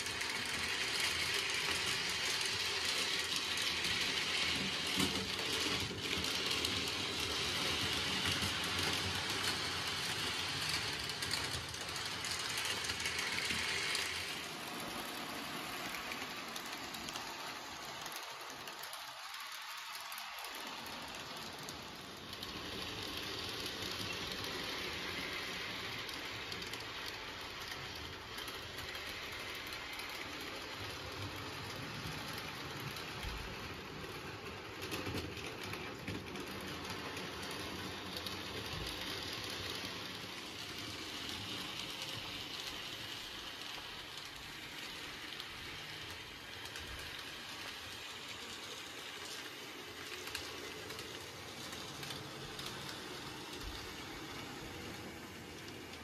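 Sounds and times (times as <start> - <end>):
model train motor whirring: 0.0 - 56.0.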